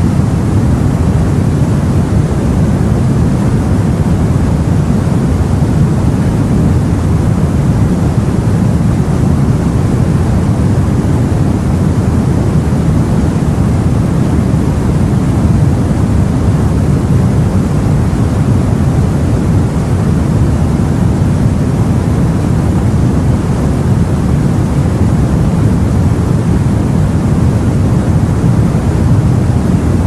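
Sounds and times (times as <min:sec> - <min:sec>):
low rumbling sea noise: 0:00.0 - 0:30.0.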